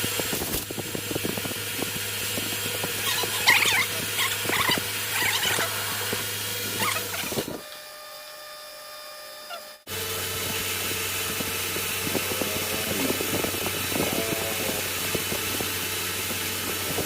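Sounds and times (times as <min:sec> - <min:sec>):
metal lathe humming: 0:00.7 - 0:17.0.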